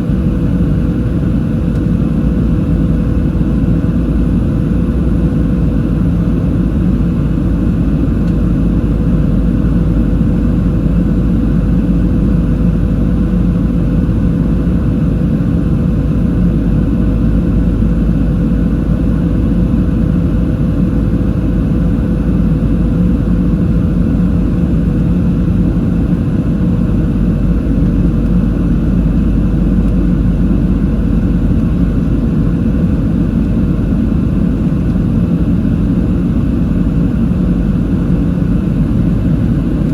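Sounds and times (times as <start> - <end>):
aircraft cabin engine rumble: 0.0 - 39.9
steady hum: 0.0 - 39.9.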